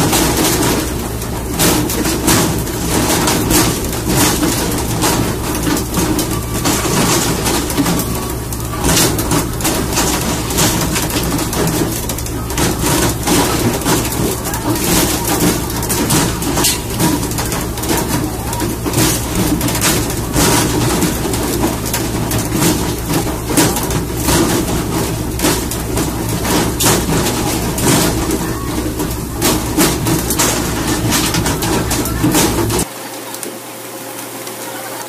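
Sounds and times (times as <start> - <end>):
low engine drone: 0.0 - 32.9
sharp knocks and thumps: 0.0 - 32.9.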